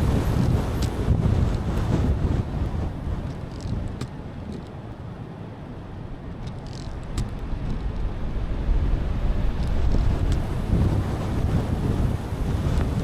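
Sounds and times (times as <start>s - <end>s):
tyre noise on wet road: 0.0s - 13.0s.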